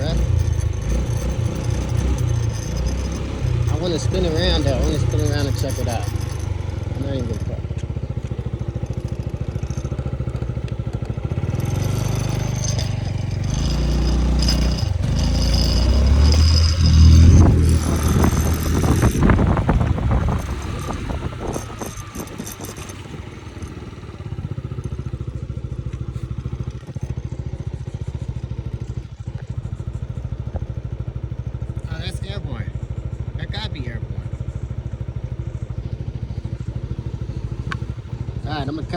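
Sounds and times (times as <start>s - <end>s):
motorbike engine idling: 0.0s - 38.9s.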